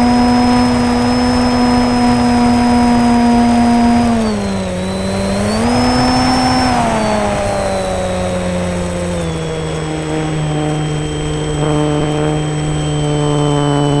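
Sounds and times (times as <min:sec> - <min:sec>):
model plane electric motor whine: 0:00.0 - 0:14.0.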